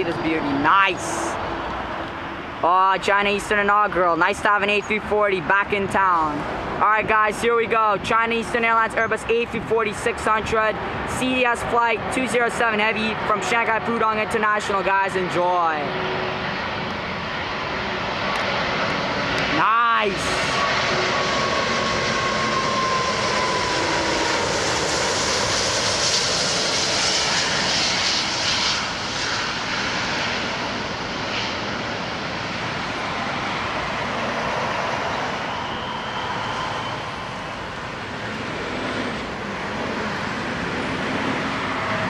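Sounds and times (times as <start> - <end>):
jet airliner roar overhead: 0.0 - 42.0
jet rumble: 0.0 - 42.0.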